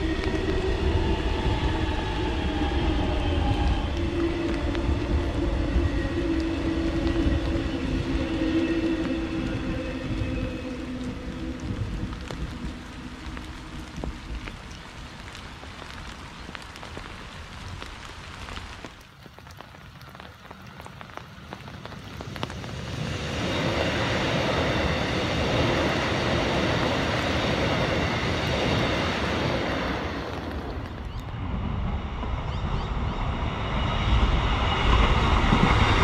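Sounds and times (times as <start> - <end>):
electric trains passing: 0.0 - 16.2, 22.0 - 36.0
rain pattering on foliage: 0.0 - 31.4.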